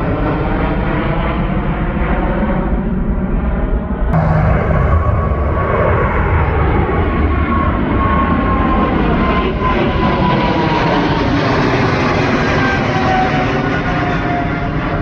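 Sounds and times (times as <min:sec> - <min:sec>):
jet airliner engines whining: 0:00.1 - 0:15.0.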